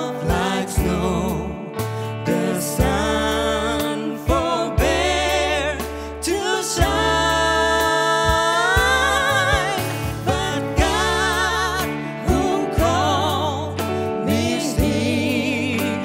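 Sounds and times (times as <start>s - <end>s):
band with bass and drums: 0.0s - 16.0s.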